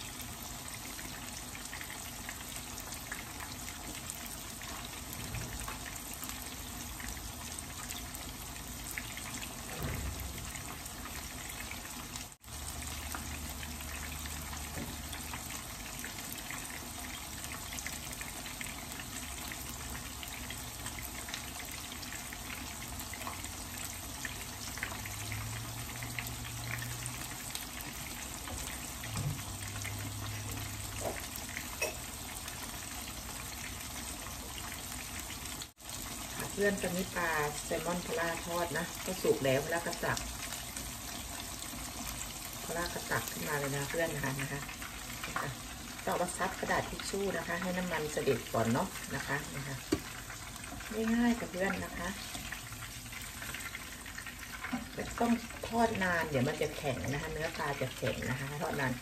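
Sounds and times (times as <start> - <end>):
fish sizzling in frying oil: 0.0 - 59.0
small oil crackles: 0.0 - 59.0.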